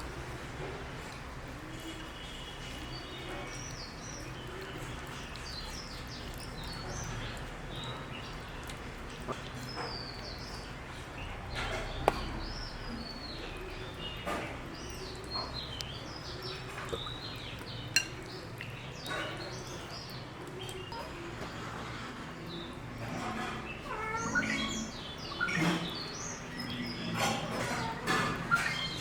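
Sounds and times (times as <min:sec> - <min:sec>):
small birds chirping: 0:00.2 - 0:29.0.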